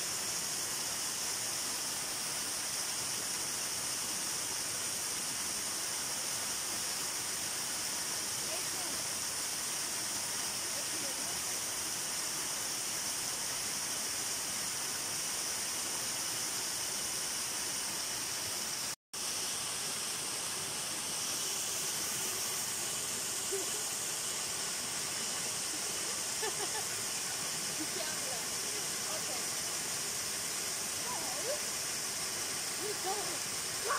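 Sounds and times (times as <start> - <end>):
waterfall splashing into pool: 0.0 - 33.9.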